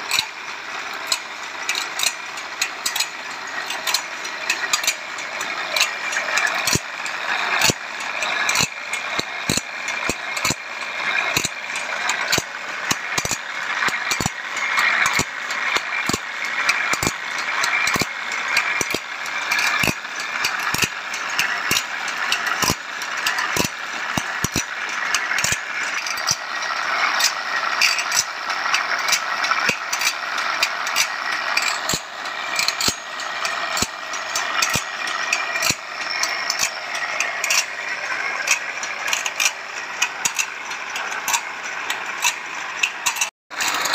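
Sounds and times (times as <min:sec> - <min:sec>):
grinding wheel gritty hiss: 0:00.0 - 0:43.9
machine sharp clicks: 0:00.1 - 0:43.9.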